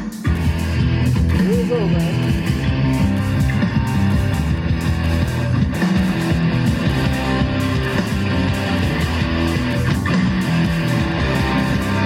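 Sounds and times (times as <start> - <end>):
rock song over speaker: 0.0 - 12.0.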